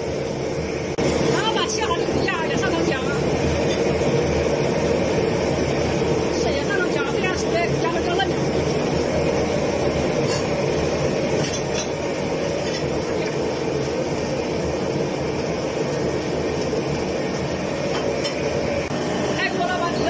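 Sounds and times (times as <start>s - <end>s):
boiling water: 0.0s - 20.0s
gas burner roaring: 0.0s - 20.0s.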